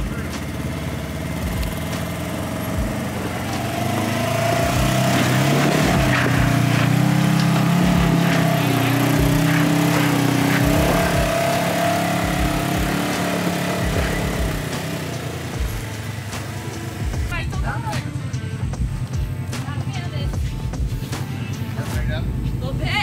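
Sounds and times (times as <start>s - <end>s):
vehicle engine under load: 0.0s - 23.0s.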